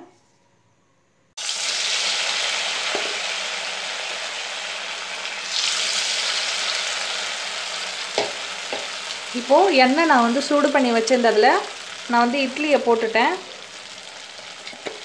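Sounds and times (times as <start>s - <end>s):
food deep-frying in hot oil: 1.4s - 15.0s.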